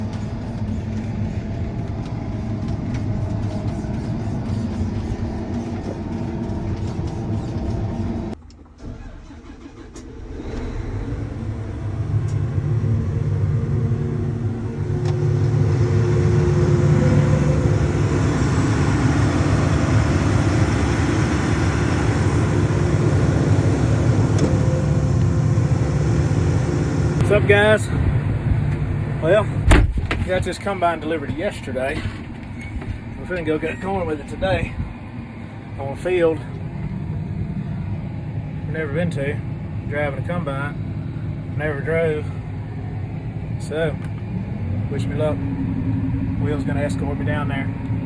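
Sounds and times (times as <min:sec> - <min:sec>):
farm machinery engine running: 0:00.0 - 0:48.0.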